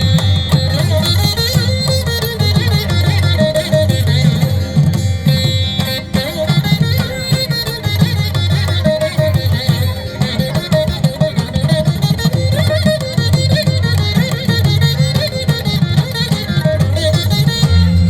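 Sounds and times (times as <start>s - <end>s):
plucked veena melody: 0.0s - 18.0s.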